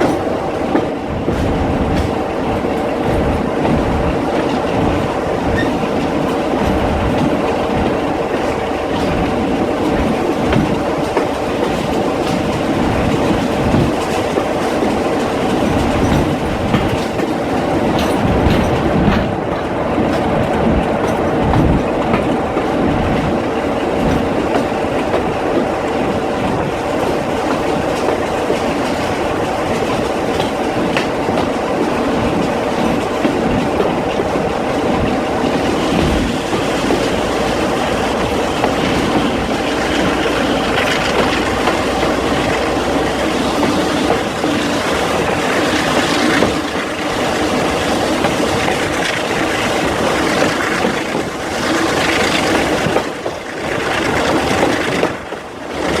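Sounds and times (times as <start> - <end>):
knocks of train on track: 0.0 - 56.0
train wheels rumbling on rails: 0.0 - 56.0.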